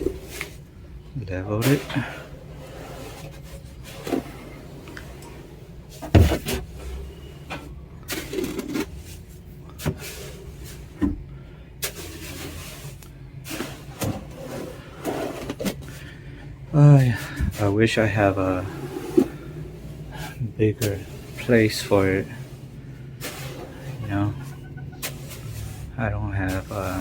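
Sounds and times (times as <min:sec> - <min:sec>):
steady low hum: 0:00.0 - 0:27.0
tool scraping sand: 0:01.5 - 0:07.2, 0:08.0 - 0:11.0, 0:11.8 - 0:16.0, 0:17.0 - 0:27.0.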